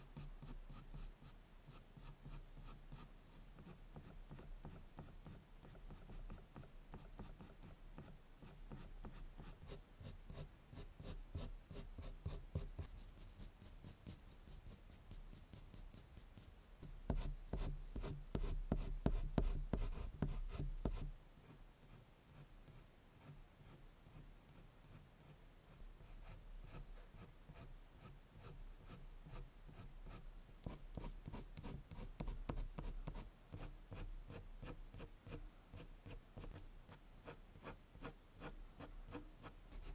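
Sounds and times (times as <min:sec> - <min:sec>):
colored pencil scratching on paper: 0:00.2 - 0:16.5, 0:17.1 - 0:39.9.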